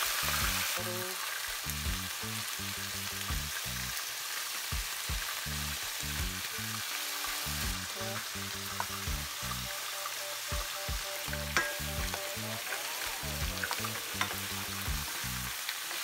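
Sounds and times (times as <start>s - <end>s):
fish frying in a pan: 0.0s - 16.0s
onions sizzling in a pan: 0.0s - 16.0s
rhythmic background music bass: 0.1s - 0.9s, 1.5s - 4.0s, 4.7s - 15.6s.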